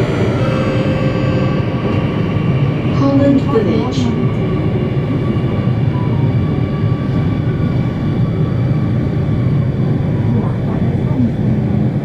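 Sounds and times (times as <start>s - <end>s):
faint whining tones: 0.0s - 11.2s
train low rumble: 0.0s - 12.0s.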